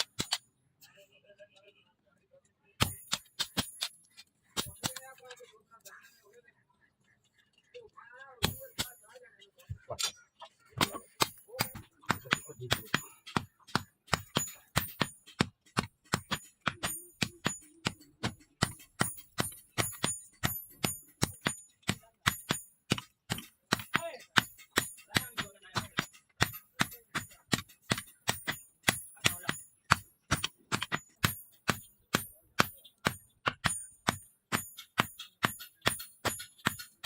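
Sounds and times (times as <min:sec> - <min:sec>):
hammer striking steel on anvil: 0:00.0 - 0:00.4, 0:02.8 - 0:05.4, 0:08.4 - 0:09.2, 0:10.8 - 0:37.0.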